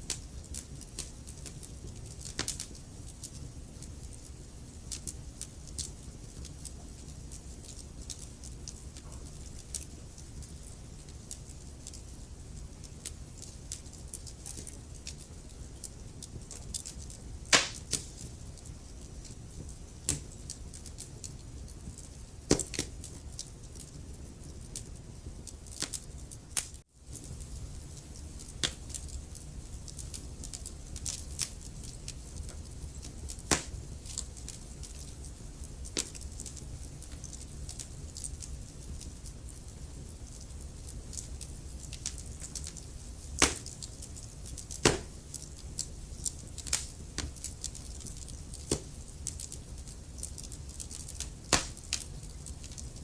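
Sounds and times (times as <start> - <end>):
logs crackling and popping: 0.0 - 53.0
low rumble of flames: 0.0 - 53.0.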